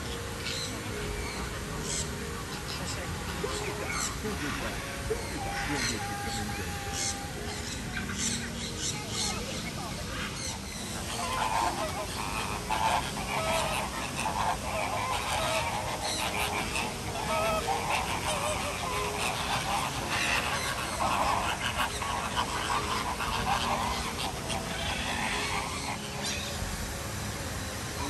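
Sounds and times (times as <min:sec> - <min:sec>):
flock of flamingos honking: 0:00.0 - 0:28.0.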